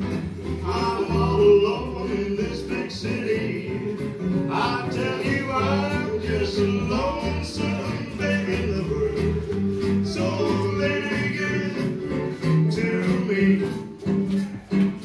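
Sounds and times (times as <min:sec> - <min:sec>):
dance music with singing: 0:00.5 - 0:15.0.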